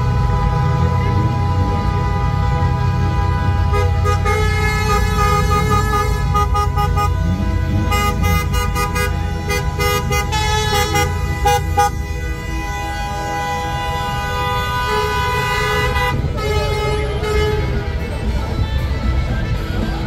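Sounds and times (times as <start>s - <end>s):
car horns honking: 0.0s - 20.0s
rumble of slow cars: 0.0s - 20.0s.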